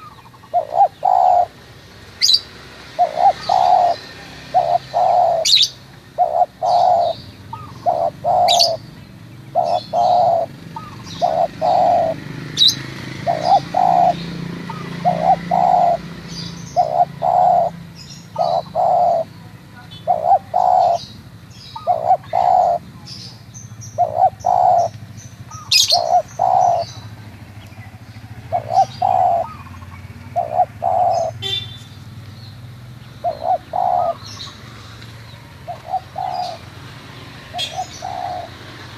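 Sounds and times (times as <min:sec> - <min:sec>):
dove cooing: 0:00.0 - 0:01.6, 0:02.2 - 0:23.2, 0:23.8 - 0:31.7, 0:33.2 - 0:34.8, 0:35.4 - 0:38.9
small birds chirping: 0:00.0 - 0:38.9.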